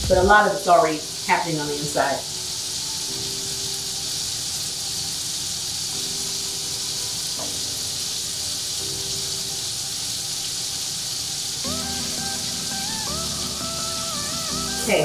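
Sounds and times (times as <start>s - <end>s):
scallops sizzling in a skillet: 0.1s - 15.0s.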